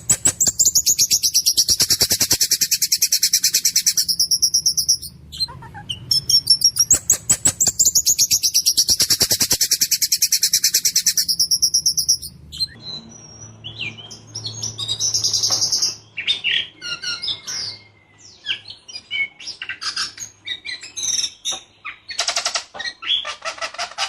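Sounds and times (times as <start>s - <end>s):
bird singing whistles and chirps: 0.0s - 22.2s.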